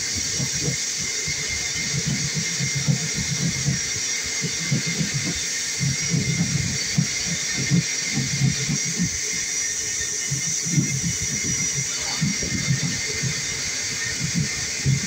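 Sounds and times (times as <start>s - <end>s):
vacuum cleaner whining: 0.0s - 15.0s.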